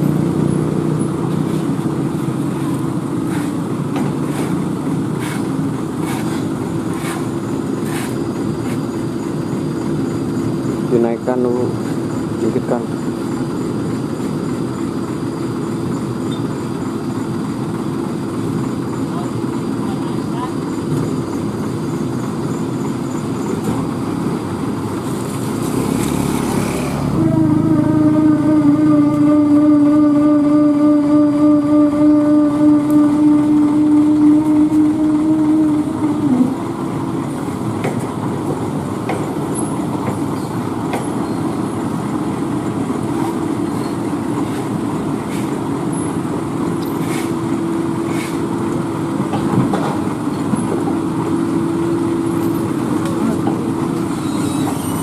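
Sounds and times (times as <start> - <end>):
heavy diesel machinery running: 0.0 - 55.0
loud steady whine: 0.0 - 55.0.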